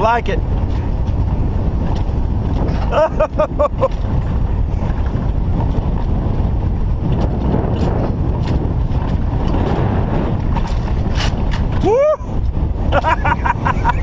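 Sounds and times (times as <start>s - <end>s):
wheels rumbling on rails: 0.0s - 14.0s
wind on microphone: 0.0s - 14.0s.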